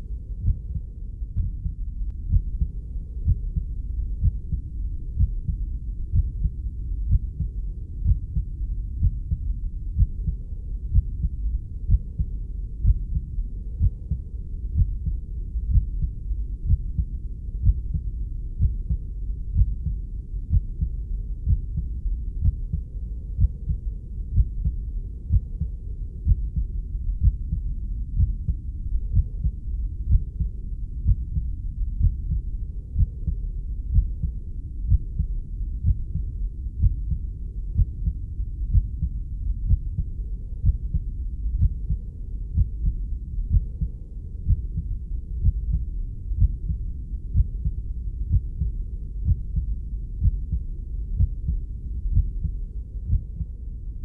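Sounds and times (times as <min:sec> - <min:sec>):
heartbeat: 0:00.0 - 0:54.0
low rumble: 0:00.0 - 0:54.0.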